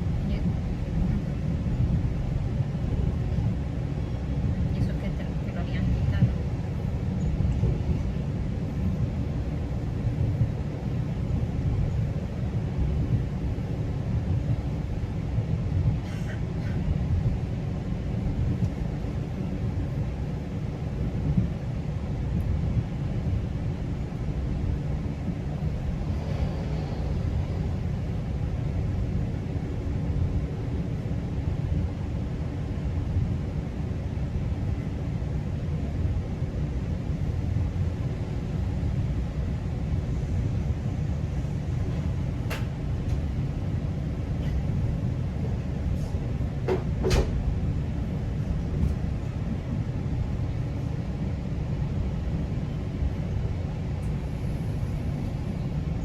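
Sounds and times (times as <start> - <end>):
train coach rumbling on track: 0.0 - 56.0.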